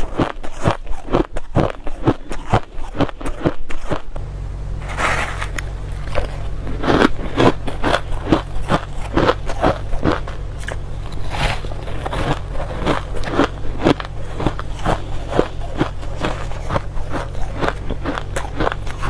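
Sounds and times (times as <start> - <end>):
chewing crushed ice: 0.0 - 4.2, 4.8 - 19.0
steady low hum: 0.0 - 19.0.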